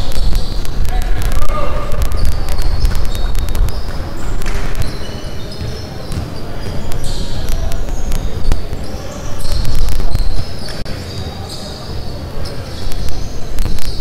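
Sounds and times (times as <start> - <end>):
basketball bouncing on court: 0.0 - 11.3
players calling out: 0.0 - 13.5
sneakers squeaking: 0.0 - 14.0.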